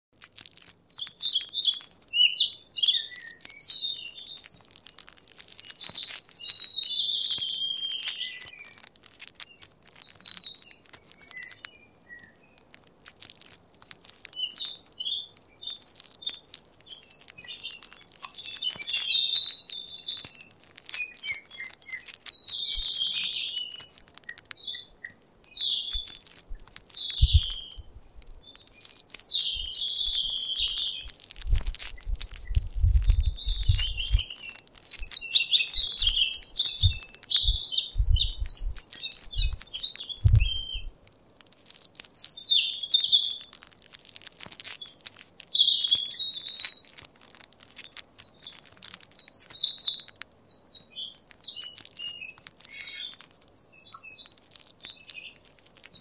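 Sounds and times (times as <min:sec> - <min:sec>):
songbirds chirping and warbling: 0:01.0 - 0:41.0, 0:41.6 - 0:56.0.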